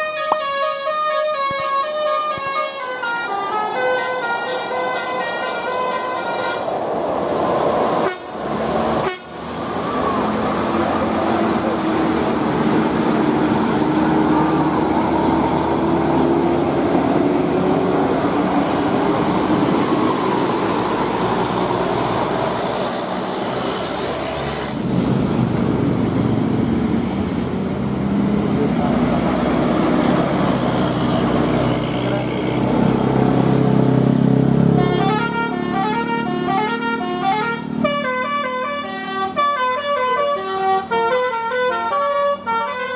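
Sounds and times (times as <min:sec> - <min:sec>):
bus engine and tyre noise: 0:00.0 - 0:42.9.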